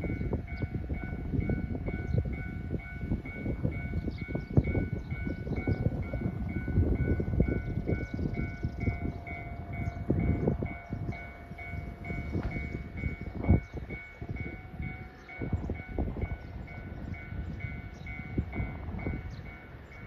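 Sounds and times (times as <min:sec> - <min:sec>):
electronic railway warning bell: 0:00.0 - 0:20.0.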